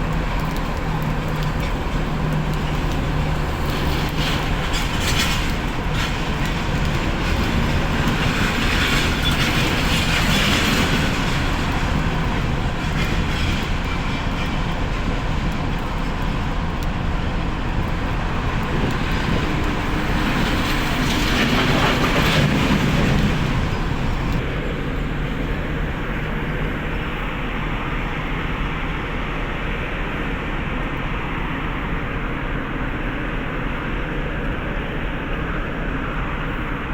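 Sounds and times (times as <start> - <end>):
heavy machinery rumble: 0.0 - 36.9
low engine hum: 0.0 - 36.9.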